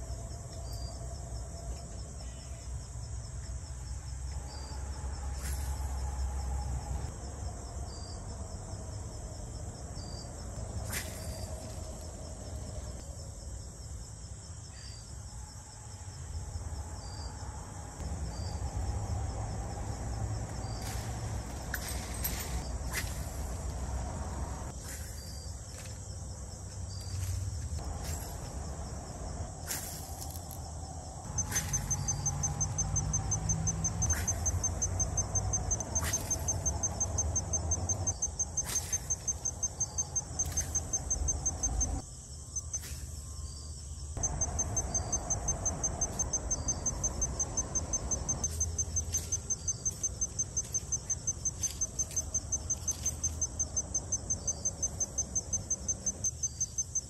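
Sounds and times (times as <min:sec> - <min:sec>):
insect chirping: 0:00.0 - 0:57.0.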